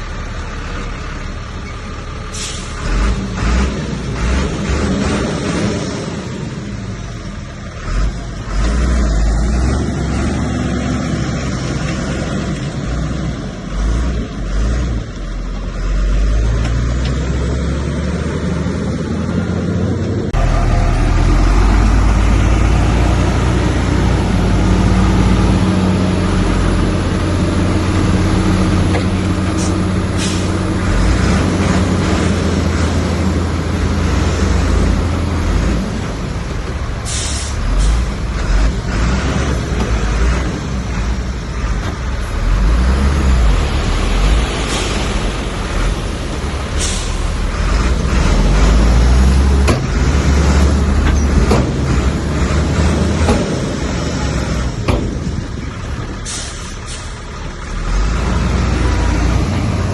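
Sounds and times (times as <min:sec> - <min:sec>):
heavy diesel machinery rumbling: 0:00.0 - 0:59.9.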